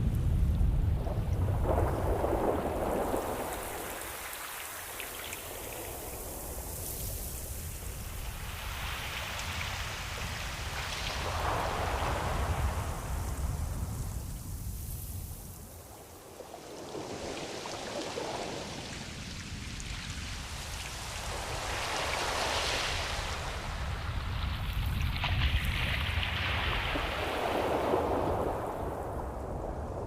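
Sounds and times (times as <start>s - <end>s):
ocean waves washing in: 0.0s - 30.0s.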